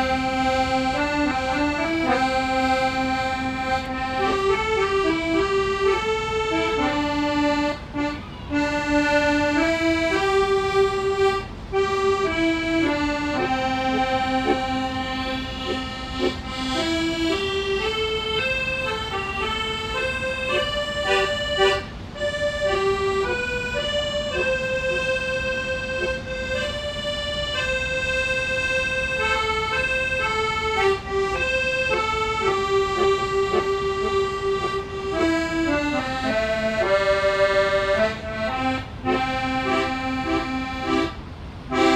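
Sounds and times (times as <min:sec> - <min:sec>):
accordion melody: 0:00.0 - 0:41.9.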